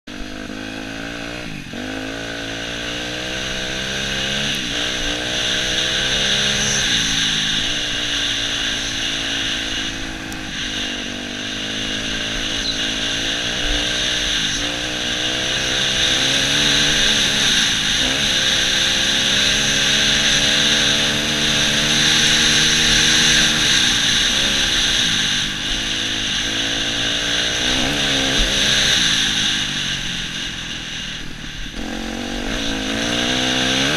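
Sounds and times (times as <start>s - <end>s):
dirt bike engine revving: 0.0s - 33.9s
wind rushing over microphone: 0.8s - 33.9s.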